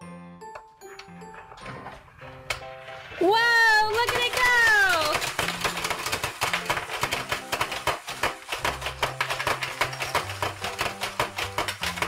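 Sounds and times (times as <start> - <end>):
quiet background music: 0.0 - 12.0.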